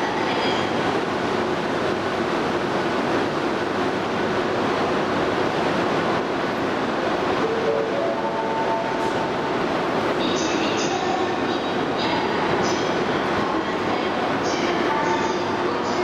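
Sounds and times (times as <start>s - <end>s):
train rushing rumble: 0.0s - 16.0s.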